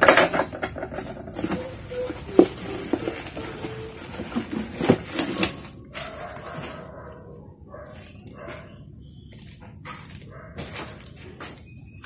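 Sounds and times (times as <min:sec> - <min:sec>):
plastic packaging crinkling: 0:00.8 - 0:11.3.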